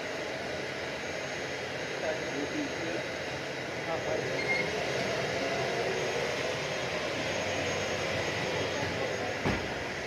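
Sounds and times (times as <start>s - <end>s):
jet turbine running: 0.0s - 10.0s.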